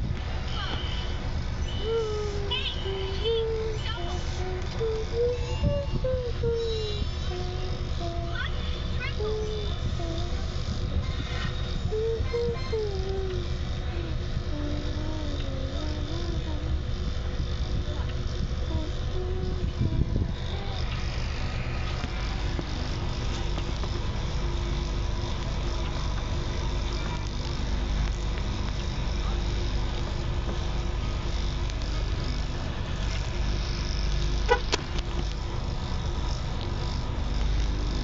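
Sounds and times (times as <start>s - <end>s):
vehicle rumble: 0.0s - 38.0s.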